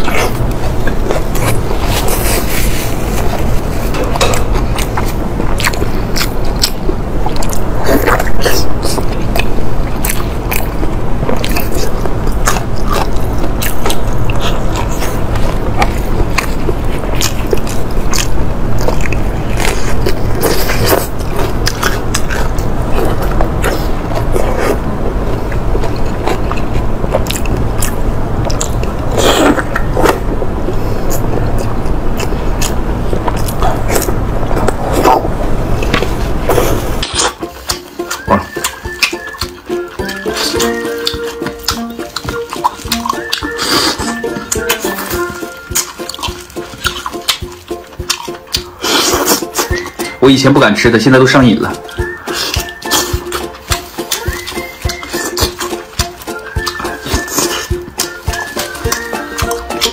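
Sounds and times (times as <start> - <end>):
steady low hum: 0.0 - 59.9
chewing with wet mouth clicks: 3.3 - 24.8, 25.4 - 35.2, 35.8 - 50.2, 51.6 - 59.9.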